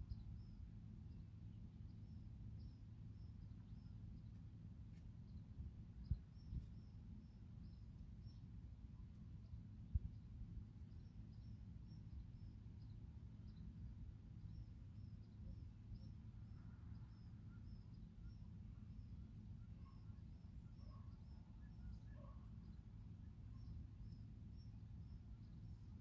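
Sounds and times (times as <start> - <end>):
faint low rumble: 0.0 - 26.0
small bird chirping: 0.0 - 26.0.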